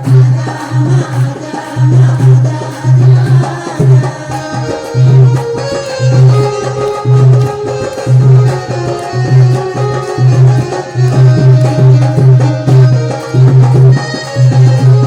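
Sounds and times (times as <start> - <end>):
hand drum beat: 0.0 - 15.0
sustained melody: 0.0 - 15.0.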